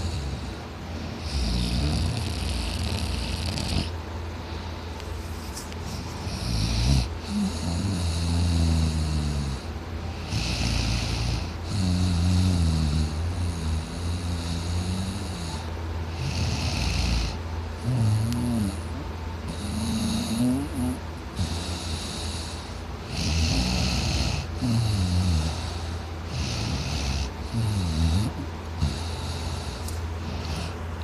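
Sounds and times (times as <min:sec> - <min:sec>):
man snoring: 0:00.0 - 0:04.0, 0:06.2 - 0:30.8
breathy hissing: 0:00.0 - 0:05.0, 0:05.8 - 0:31.0.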